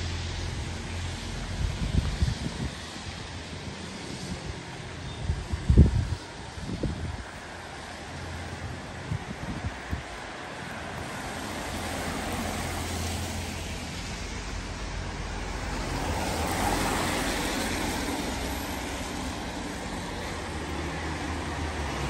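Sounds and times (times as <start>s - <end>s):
tyres hissing on wet road: 0.0s - 22.0s
vehicle engines humming: 0.0s - 22.0s.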